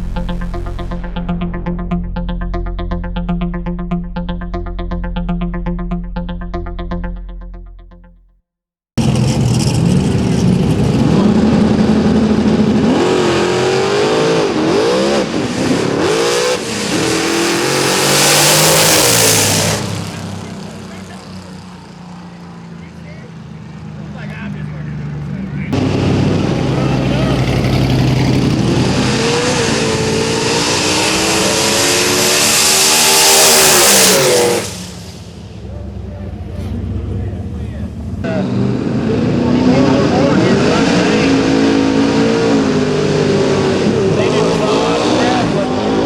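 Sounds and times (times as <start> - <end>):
drag-racing engine at full throttle: 9.0 - 46.0.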